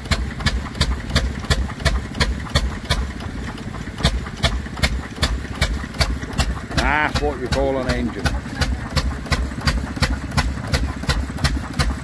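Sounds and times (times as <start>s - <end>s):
stationary engine exhaust beats: 0.0s - 12.0s.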